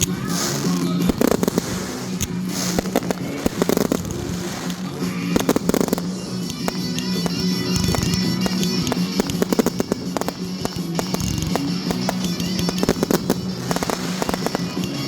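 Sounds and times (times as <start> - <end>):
fireworks popping and crackling: 0.0 - 15.0.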